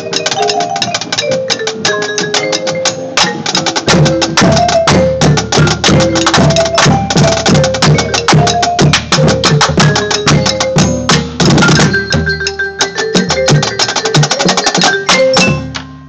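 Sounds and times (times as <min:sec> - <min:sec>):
marching bass drums: 0:00.0 - 0:15.8.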